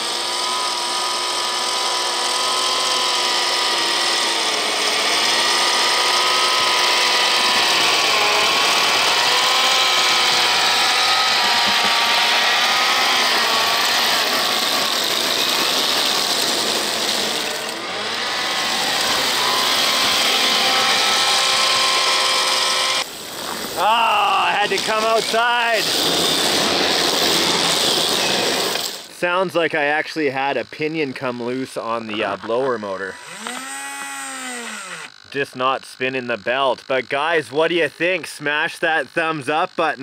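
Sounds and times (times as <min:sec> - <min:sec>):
electric motor whine: 0:00.0 - 0:29.1, 0:31.3 - 0:35.3.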